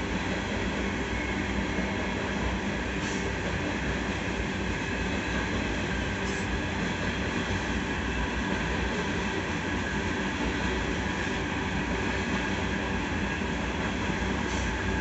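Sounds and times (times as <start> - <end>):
steel wheels running on rails: 0.0 - 15.0.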